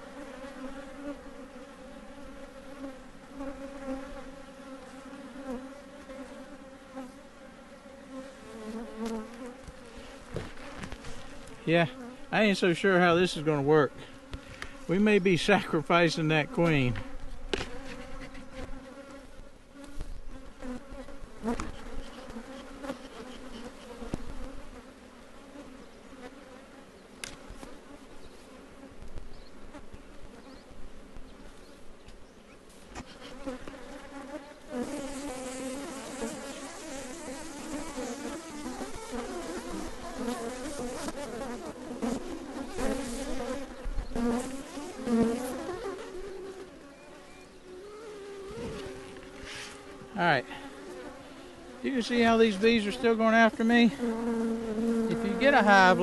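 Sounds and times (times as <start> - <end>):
single bees zipping past: 0.0 - 12.3, 14.2 - 15.0, 16.5 - 31.6, 32.9 - 56.0
bees buzzing drone: 0.0 - 56.0.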